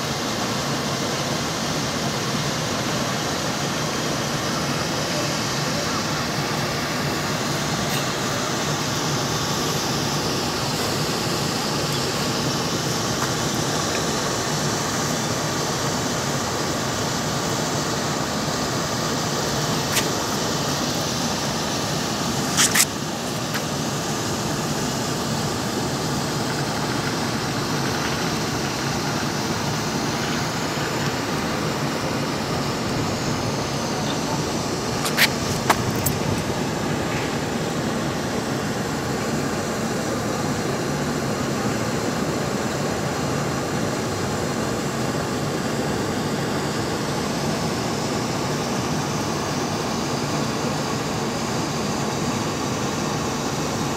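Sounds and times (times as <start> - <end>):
outdoor background hiss: 0.0 - 53.9.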